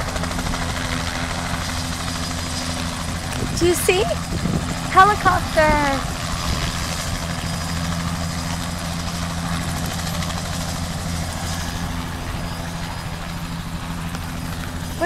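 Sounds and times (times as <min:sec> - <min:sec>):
helicopter engine and rotor hum: 0:00.0 - 0:15.0.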